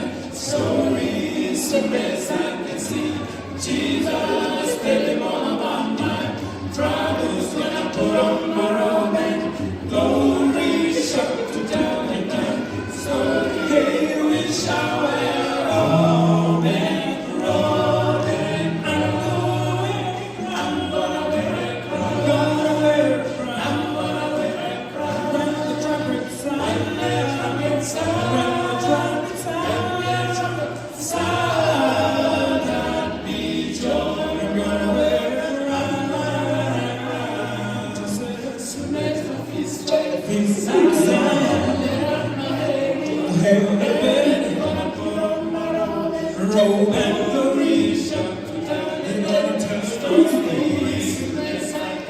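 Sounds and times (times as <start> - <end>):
group singing in close harmony: 0.0 - 52.0.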